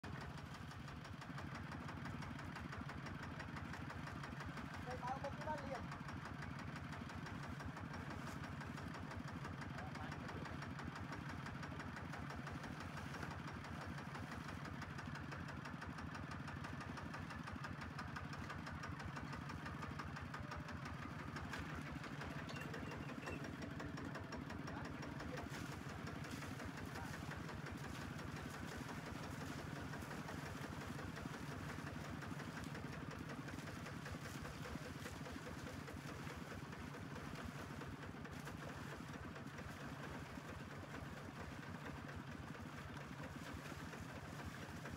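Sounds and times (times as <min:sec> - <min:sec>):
diesel engine knocking steadily: 0:00.0 - 0:44.9.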